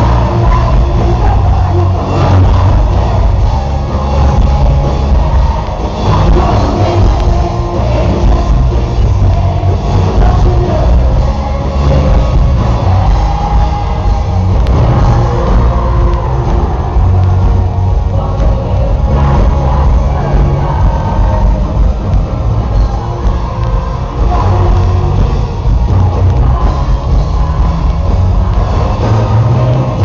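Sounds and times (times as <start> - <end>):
heavy bass: 0.0 - 30.0
live rock band playing: 0.0 - 30.0
person singing: 0.0 - 30.0.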